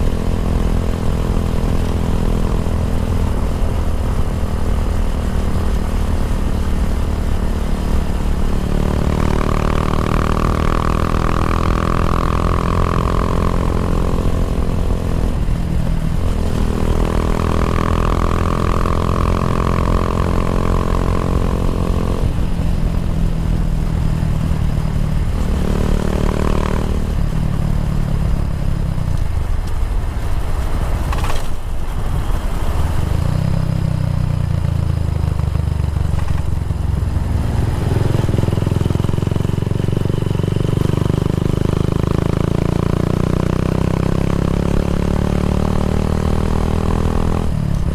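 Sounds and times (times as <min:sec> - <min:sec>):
motorcycle engine running: 0:00.0 - 0:31.4, 0:32.9 - 0:47.9.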